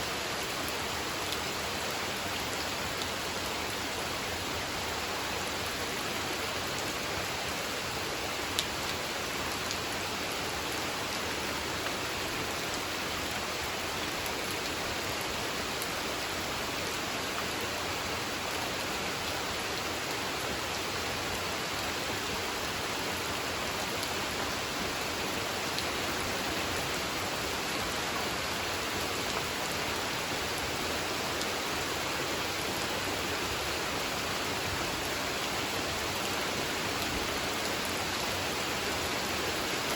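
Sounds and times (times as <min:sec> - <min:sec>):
rain falling onto a pond: 0:00.0 - 0:39.9.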